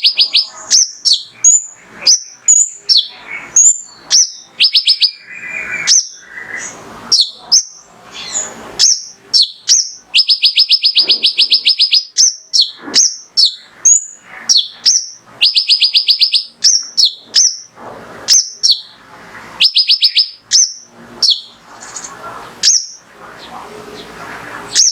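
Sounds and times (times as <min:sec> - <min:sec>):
bird singing chirps and trills: 0:00.0 - 0:24.9.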